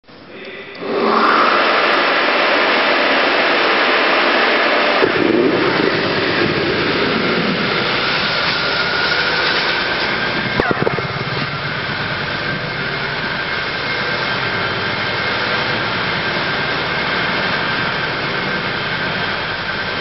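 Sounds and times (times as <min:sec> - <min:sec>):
rushing flow inside pipe: 0:00.8 - 0:20.0.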